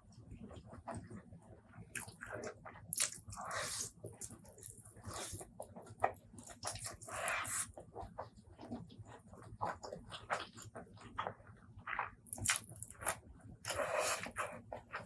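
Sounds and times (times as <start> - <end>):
wet chewing and lip-smacking: 1.9 - 15.0.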